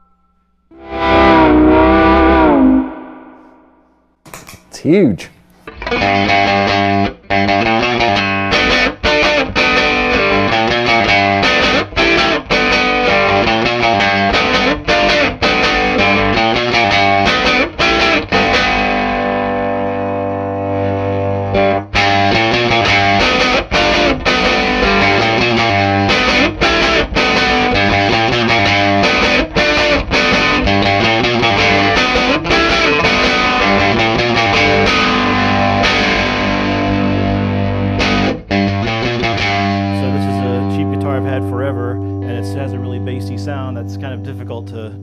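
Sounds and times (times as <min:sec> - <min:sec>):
overdriven electric guitar chords: 0:00.0 - 0:03.9, 0:05.6 - 0:45.0.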